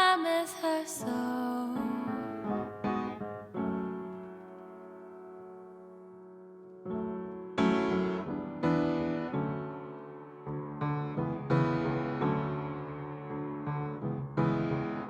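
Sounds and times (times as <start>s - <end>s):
piano playing slow chords: 1.1s - 15.0s.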